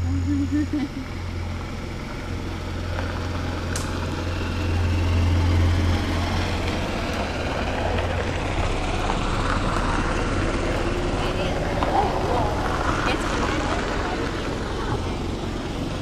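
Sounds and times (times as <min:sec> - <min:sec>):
golf carts humming past: 0:00.0 - 0:16.0.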